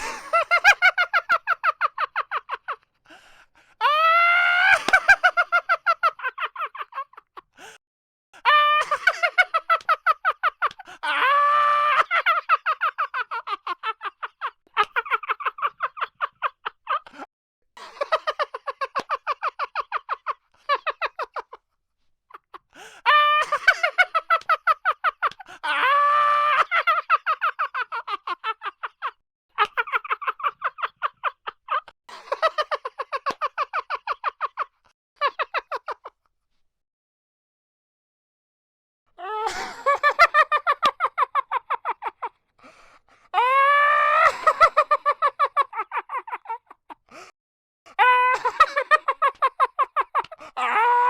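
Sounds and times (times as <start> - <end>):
high-pitched cackling laugh: 0.0 - 2.8, 4.4 - 7.5, 8.4 - 17.3, 18.0 - 21.6, 23.1 - 36.2, 39.2 - 42.4, 43.4 - 47.2, 47.9 - 51.0.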